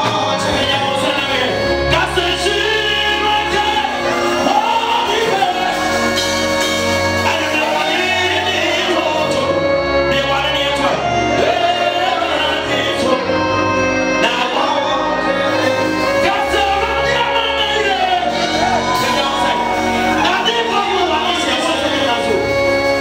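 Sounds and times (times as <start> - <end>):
instrumental accompaniment with bass: 0.0 - 23.0
man singing gospel into microphone: 0.0 - 23.0.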